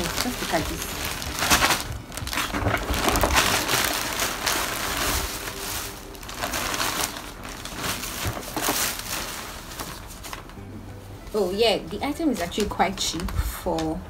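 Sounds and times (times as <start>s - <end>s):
packaging rustling and crinkling: 0.0s - 10.6s, 11.3s - 14.0s.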